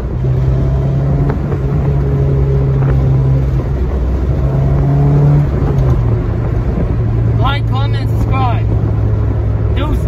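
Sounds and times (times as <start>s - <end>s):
car engine running: 0.0s - 10.0s
road and wind rumble: 0.0s - 10.0s.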